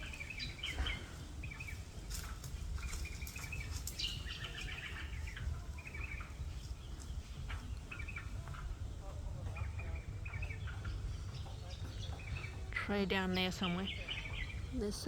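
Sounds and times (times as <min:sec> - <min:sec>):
low rumble on microphone: 0:00.0 - 0:15.0
small birds chirping: 0:00.0 - 0:15.0.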